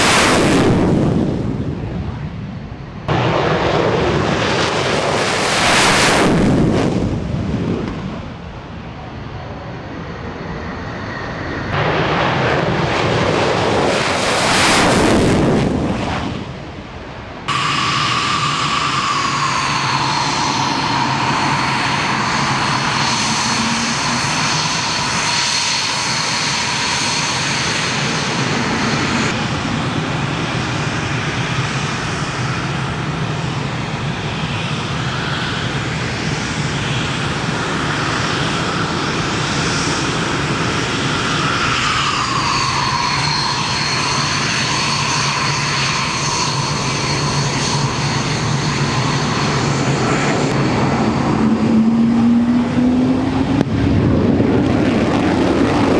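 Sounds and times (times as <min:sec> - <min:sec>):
fighter jet passing: 0:00.0 - 0:55.9
jet engine whine: 0:00.0 - 0:55.9.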